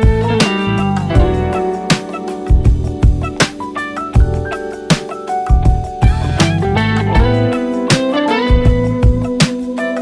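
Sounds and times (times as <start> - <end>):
drum beat: 0.0 - 9.8.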